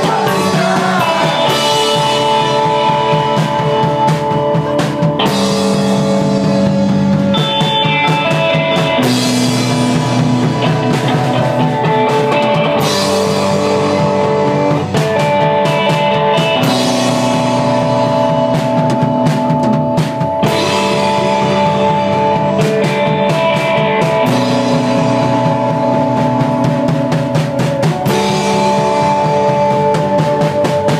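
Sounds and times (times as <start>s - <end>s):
drums and cymbals: 0.0s - 30.9s
electric guitars and bass: 0.0s - 30.9s.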